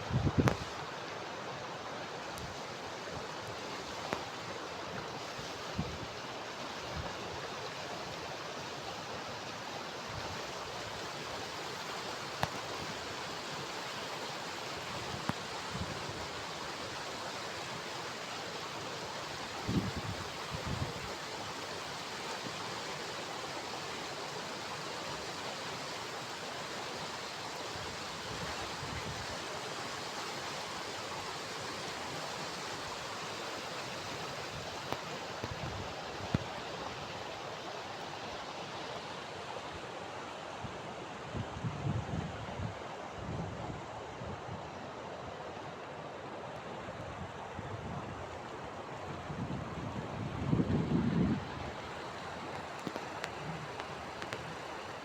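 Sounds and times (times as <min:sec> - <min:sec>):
water flowing over rocks: 0:00.1 - 0:41.4, 0:44.8 - 0:55.0.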